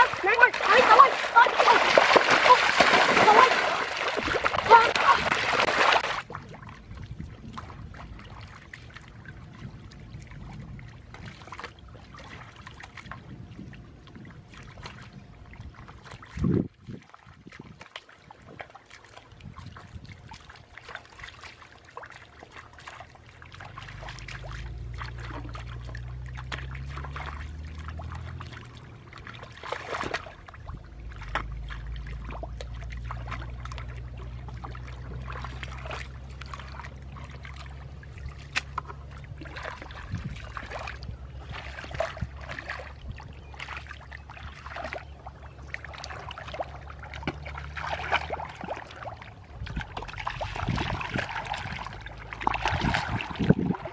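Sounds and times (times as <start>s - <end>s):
muddy water splashing: 0.0s - 53.9s.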